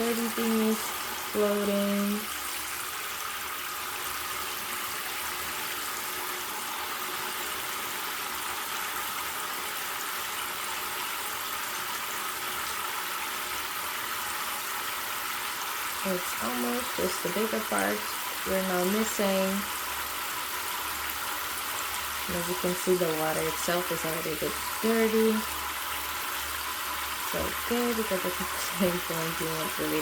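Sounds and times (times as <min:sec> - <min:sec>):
water pouring into a bucket: 0:00.0 - 0:30.0.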